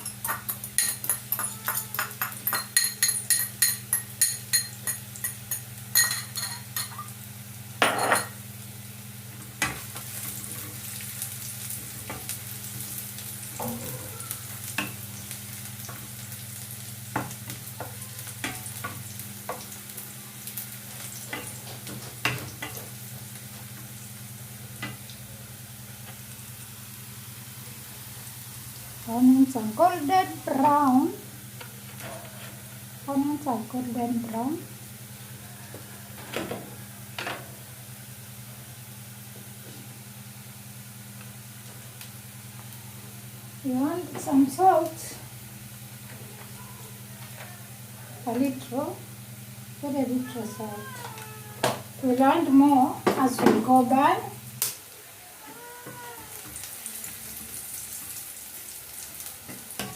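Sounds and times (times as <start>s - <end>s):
onions sizzling in a pan: 0.0s - 59.9s.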